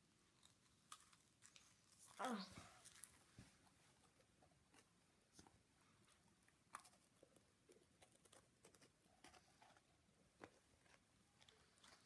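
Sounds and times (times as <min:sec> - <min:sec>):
person chewing biscuit: 0:00.0 - 0:05.5, 0:06.1 - 0:12.0.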